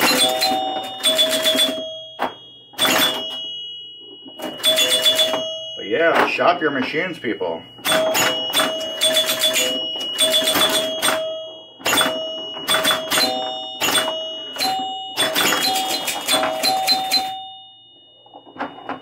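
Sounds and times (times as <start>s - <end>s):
pinball bumpers clacking: 0.0s - 17.6s, 18.2s - 19.0s
pinball scoring chimes: 0.0s - 19.0s.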